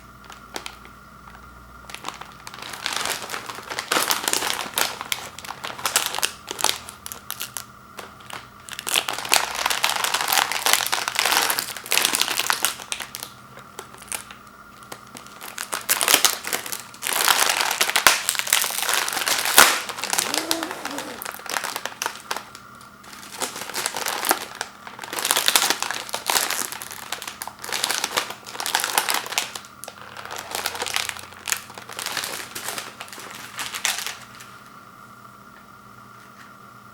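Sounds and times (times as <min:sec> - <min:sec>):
plastic wrapper crinkling: 0:00.0 - 0:34.6.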